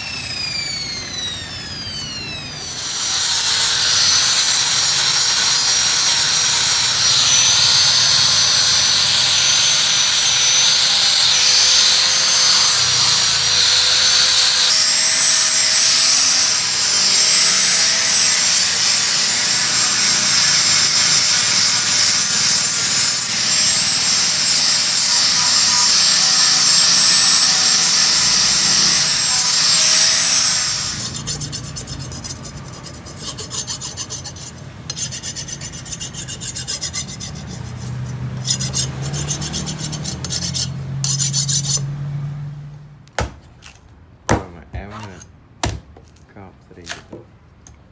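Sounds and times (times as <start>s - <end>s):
electric grinder on steel: 0.0s - 42.5s
hand file scraping: 2.6s - 41.9s.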